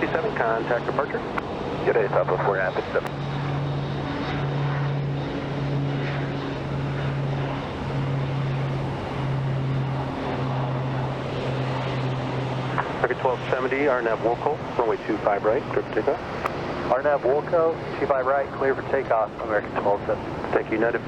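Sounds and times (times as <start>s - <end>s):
aircraft engines droning: 0.0s - 21.0s.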